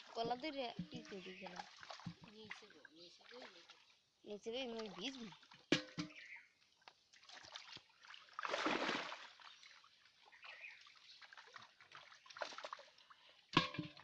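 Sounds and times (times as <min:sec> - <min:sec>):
pond water splashing: 0:00.0 - 0:14.0
water trickling: 0:00.0 - 0:14.0.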